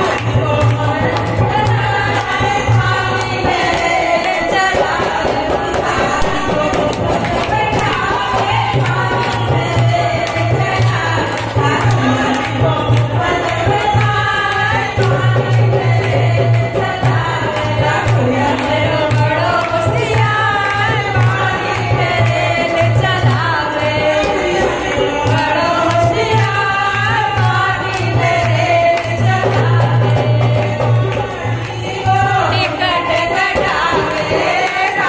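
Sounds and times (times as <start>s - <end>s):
group clapping in rhythm: 0.0s - 35.0s
women singing folk song: 0.0s - 35.0s.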